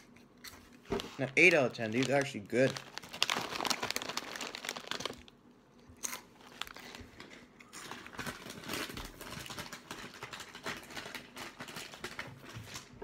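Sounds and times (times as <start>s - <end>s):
plastic snack bag crinkling: 0.9s - 13.0s
crunchy snacks being chewed: 1.9s - 12.8s.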